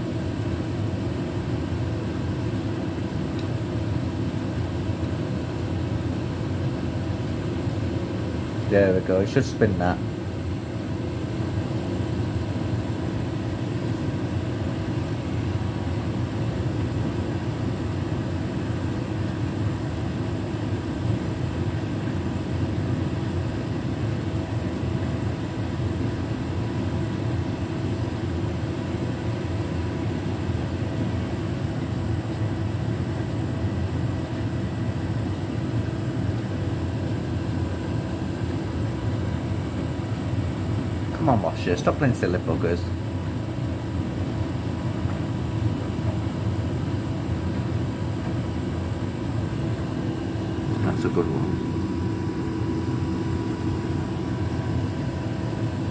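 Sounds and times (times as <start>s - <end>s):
washing machine motor droning: 0.0s - 55.9s.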